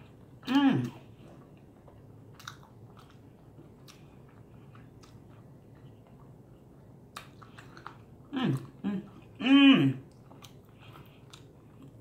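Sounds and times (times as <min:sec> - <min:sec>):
chewing crunchy fried food: 0:00.0 - 0:12.0.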